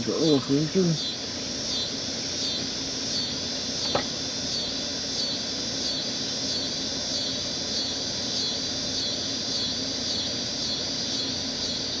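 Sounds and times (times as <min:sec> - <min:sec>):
insects chirping: 0:00.0 - 0:12.0
low background hum: 0:00.0 - 0:12.0.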